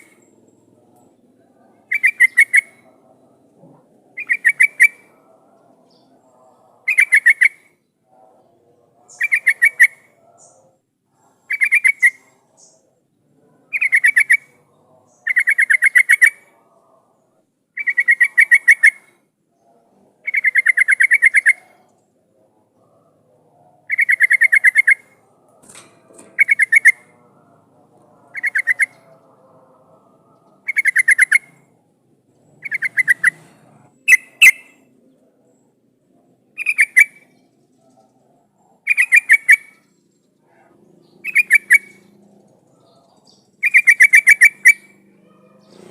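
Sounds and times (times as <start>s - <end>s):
bulbul singing: 0.0s - 8.0s, 9.1s - 10.8s, 11.4s - 13.1s, 13.7s - 22.2s, 23.8s - 31.8s, 32.5s - 35.7s, 36.5s - 38.1s, 38.7s - 45.9s.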